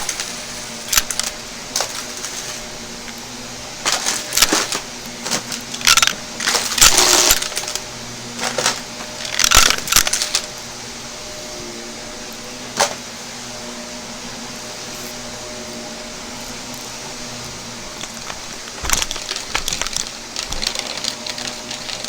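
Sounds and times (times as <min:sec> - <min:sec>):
debris rattling through vacuum: 0:00.0 - 0:13.8, 0:14.8 - 0:22.0
vacuum cleaner humming: 0:00.0 - 0:22.0.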